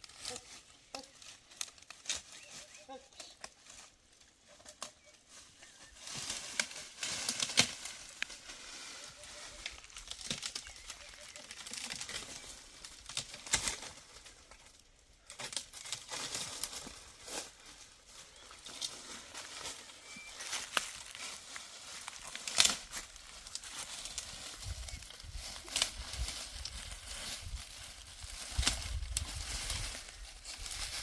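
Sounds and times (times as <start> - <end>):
rustling crinkling noise: 0.0 - 31.0.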